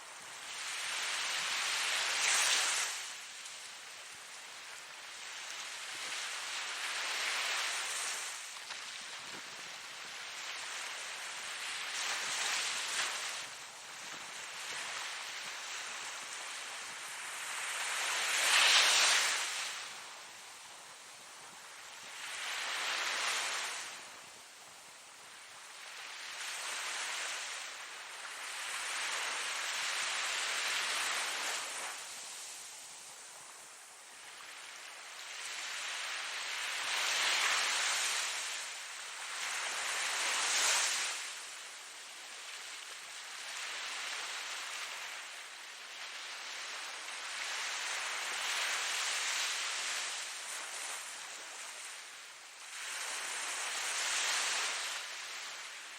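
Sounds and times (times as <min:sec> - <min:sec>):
ocean waves breaking on shore: 0:00.0 - 0:55.9.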